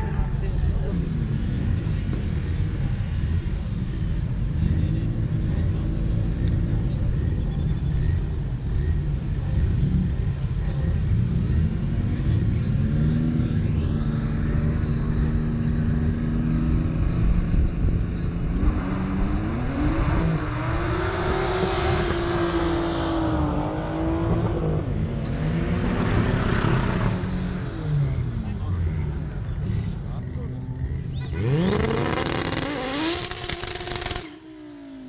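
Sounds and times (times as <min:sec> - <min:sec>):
racing car engines accelerating: 0:00.0 - 0:35.0.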